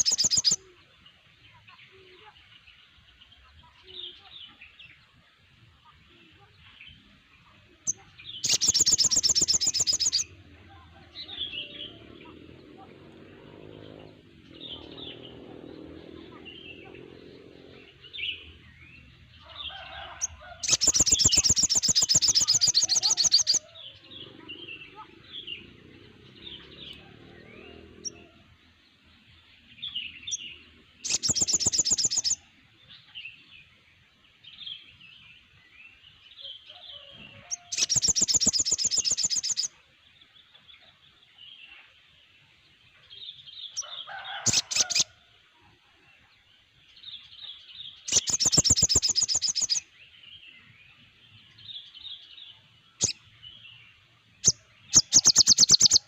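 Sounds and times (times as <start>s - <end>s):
songbirds twittering: 0.0s - 56.0s.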